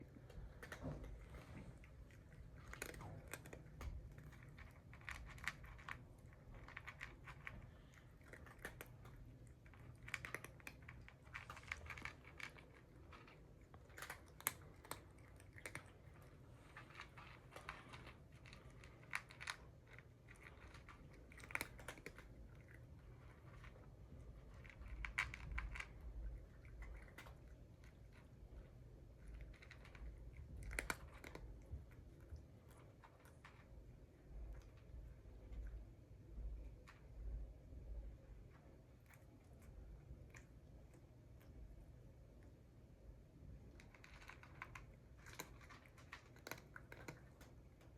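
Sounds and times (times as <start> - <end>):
cats crunching and chewing food: 0.0 - 47.9.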